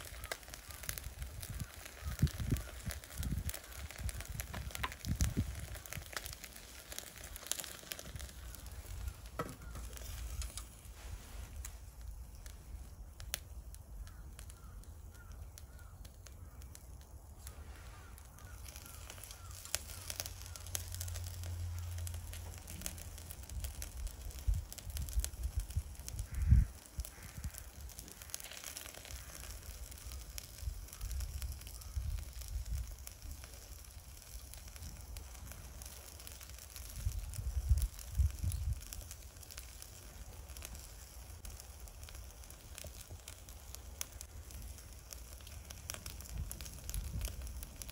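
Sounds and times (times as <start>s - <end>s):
crackles and pops: 0.0s - 47.9s
fish sizzling over charcoal: 0.0s - 47.9s.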